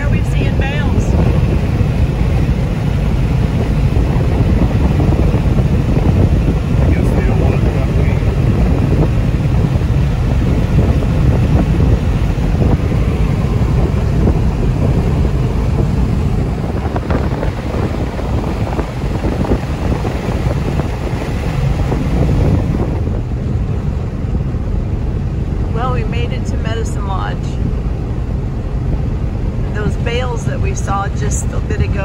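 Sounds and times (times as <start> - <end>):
tyre road noise: 0.0 - 32.0
wind buffeting inside car: 0.0 - 32.0.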